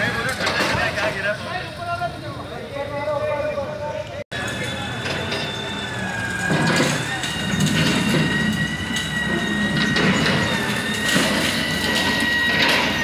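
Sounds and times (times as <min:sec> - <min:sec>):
excavator engine with hydraulic whine: 0:00.0 - 0:13.0.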